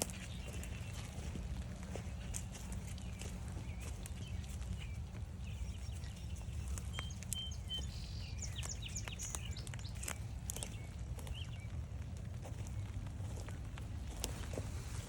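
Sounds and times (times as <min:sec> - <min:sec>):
rain pattering on an umbrella: 0:00.0 - 0:15.0
small birds chirping: 0:00.0 - 0:15.0
wind rumble on microphone: 0:00.0 - 0:15.0.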